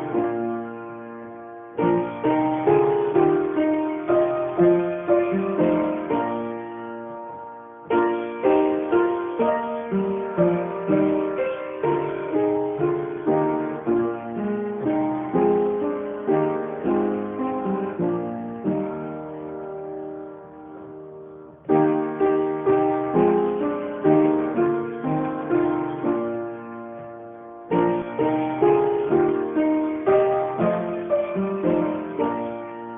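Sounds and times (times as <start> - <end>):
solo piano music: 0.0 - 32.9.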